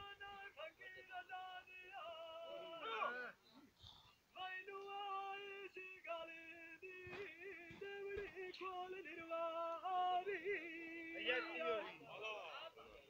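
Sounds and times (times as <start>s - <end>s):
man singing unaccompanied: 0.0s - 3.4s, 4.3s - 13.0s.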